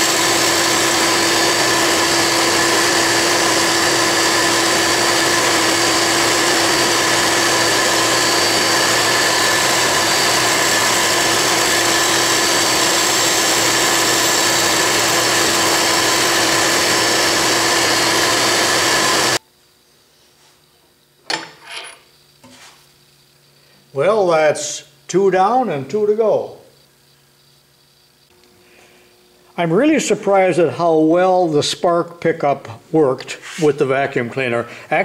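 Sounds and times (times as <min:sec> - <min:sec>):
grinder and vacuum whine: 0:00.0 - 0:19.4, 0:21.3 - 0:31.8, 0:33.1 - 0:35.0.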